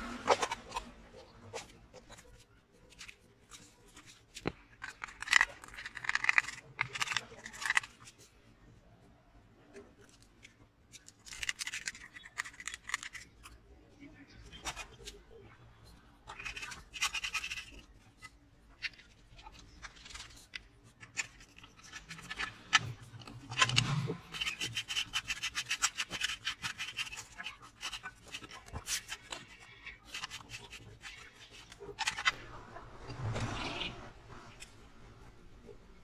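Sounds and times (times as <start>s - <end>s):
plastic scraping: 0.0s - 8.3s, 10.0s - 36.0s
plastic parts clicking and knocking: 0.1s - 8.3s, 9.7s - 15.4s, 16.2s - 32.4s.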